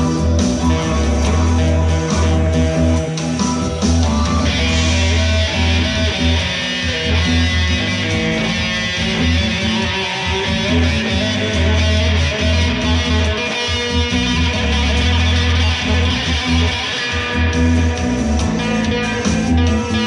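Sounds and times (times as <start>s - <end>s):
electric guitar through amplifier: 0.0s - 20.0s
low bass: 0.0s - 20.0s.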